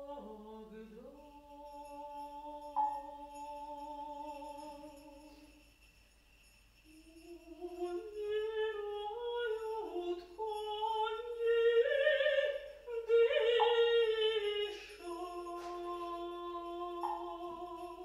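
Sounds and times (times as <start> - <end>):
woman singing: 0.0 - 5.3, 6.9 - 18.0.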